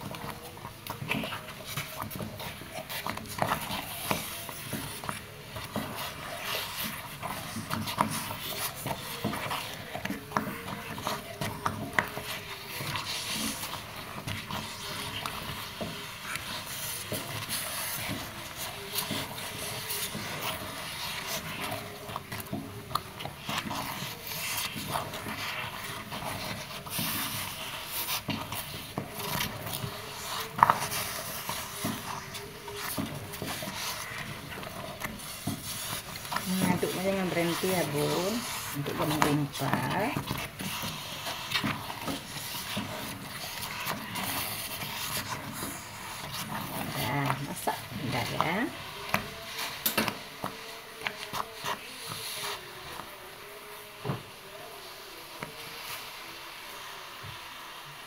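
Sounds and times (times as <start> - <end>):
wet dough squelching: 0.0 - 53.5
spatula scraping pot: 0.0 - 56.2.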